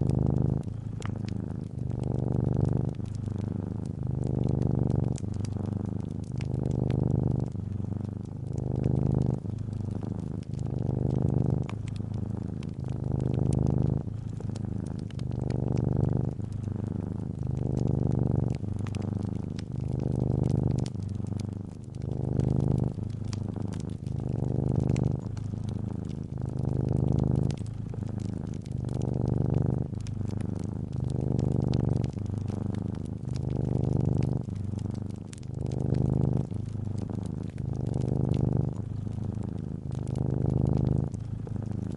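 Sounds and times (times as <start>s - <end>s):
cat purring: 0.0s - 41.9s
wood fire crackling: 0.0s - 41.9s.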